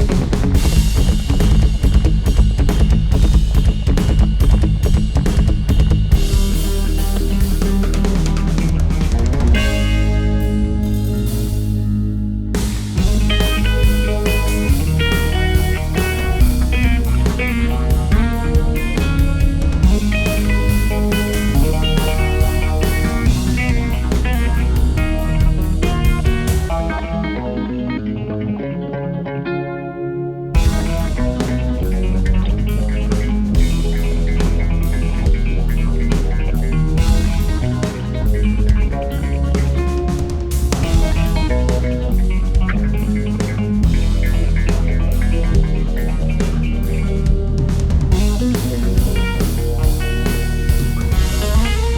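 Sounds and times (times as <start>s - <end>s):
drum kit: 0.0s - 27.5s, 30.6s - 51.9s
electric bass: 0.0s - 51.9s
electric guitar with phaser: 0.0s - 51.9s.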